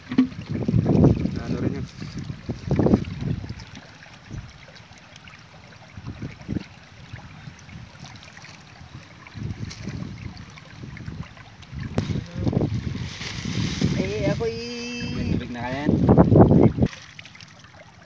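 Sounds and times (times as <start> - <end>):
wind buffeting microphone: 0.0 - 4.7, 5.8 - 16.9.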